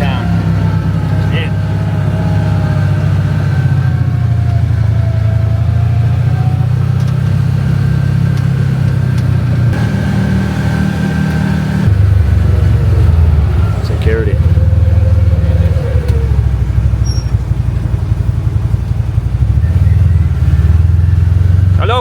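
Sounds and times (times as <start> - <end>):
car engine running under load: 0.0 - 22.0.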